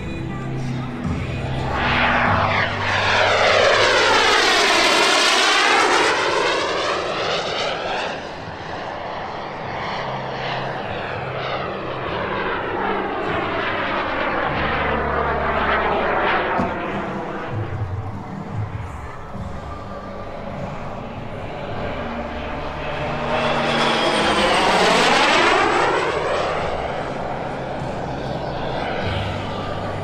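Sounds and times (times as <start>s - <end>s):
model jet turbine roaring: 0.7s - 30.0s.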